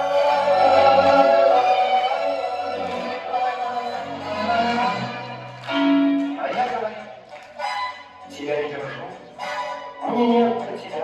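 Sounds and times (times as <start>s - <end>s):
concert music with held melody: 0.0s - 11.0s.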